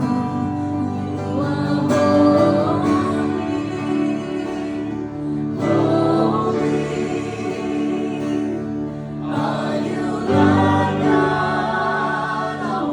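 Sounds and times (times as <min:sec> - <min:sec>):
acoustic guitar: 0:00.0 - 0:12.9
voices singing: 0:00.0 - 0:12.9.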